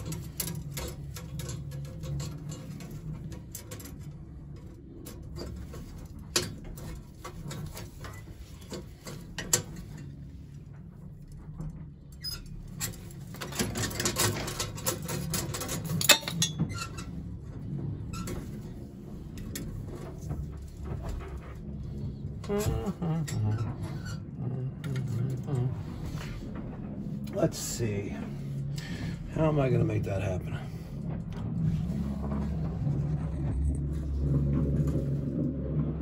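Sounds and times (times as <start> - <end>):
metal tubing clicking and scraping: 0.0 - 30.2
steady low hum: 0.0 - 36.0.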